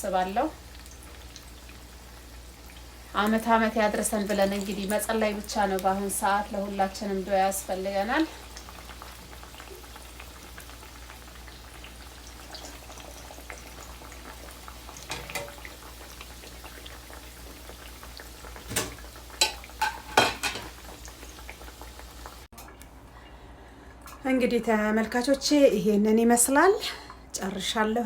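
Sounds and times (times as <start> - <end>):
fritters sizzling in hot oil: 0.0 - 22.5.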